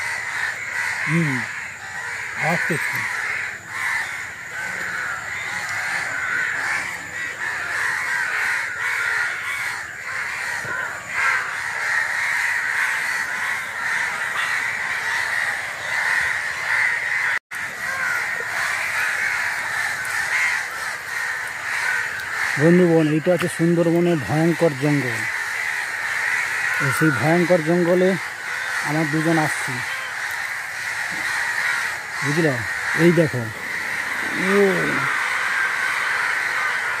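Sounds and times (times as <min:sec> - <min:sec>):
flock of birds cawing: 0:00.0 - 0:37.0.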